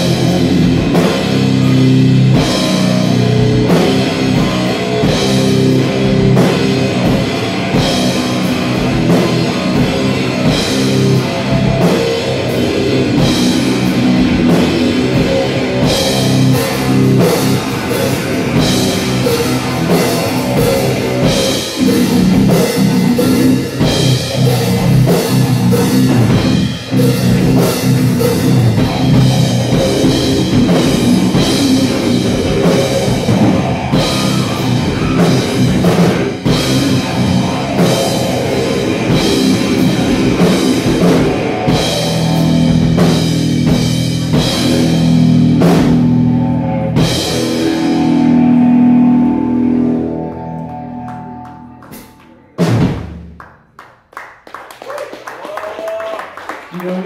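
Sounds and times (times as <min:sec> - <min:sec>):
electric guitar riff: 0:00.0 - 0:53.2
drum kit: 0:00.0 - 0:53.7.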